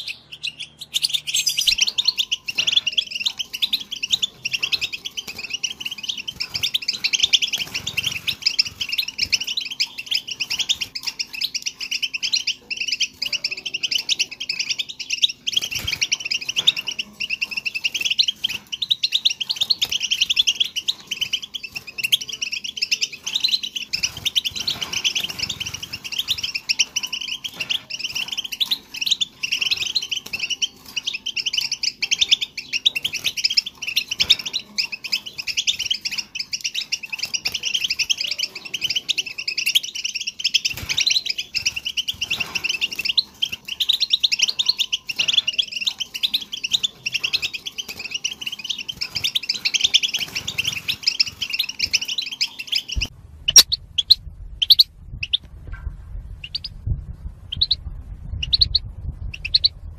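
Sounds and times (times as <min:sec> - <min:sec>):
goldfinch twittering song: 0:00.0 - 0:55.4, 0:56.4 - 0:56.9, 0:57.5 - 0:59.9.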